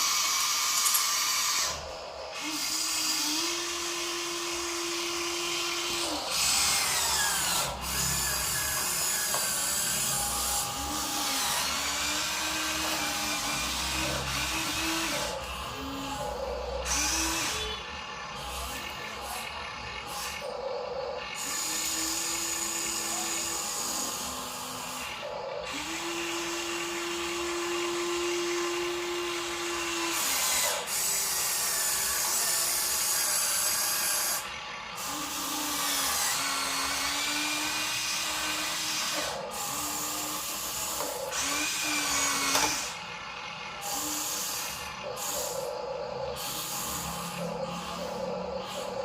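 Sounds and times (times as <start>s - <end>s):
toy truck electric motors whining: 0.0s - 49.0s.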